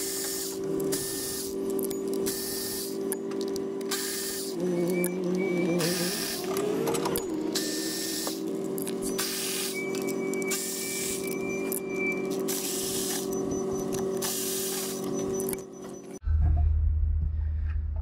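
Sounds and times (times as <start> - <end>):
electric ratchet motor whirring: 0.0 - 16.2.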